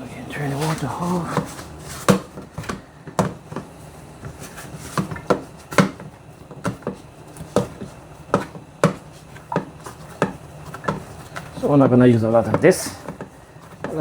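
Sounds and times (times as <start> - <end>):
dough knocking and thudding: 0.6 - 14.0.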